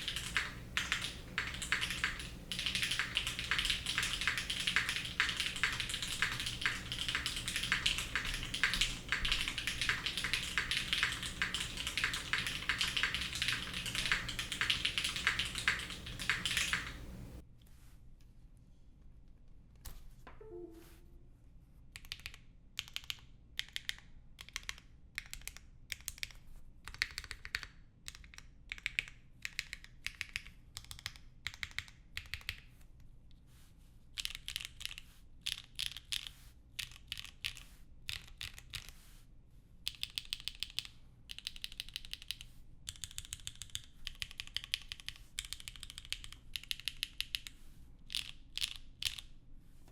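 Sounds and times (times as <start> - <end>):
mechanical keyboard typing: 0.0 - 17.4, 22.0 - 32.6, 34.2 - 39.0, 39.9 - 49.3.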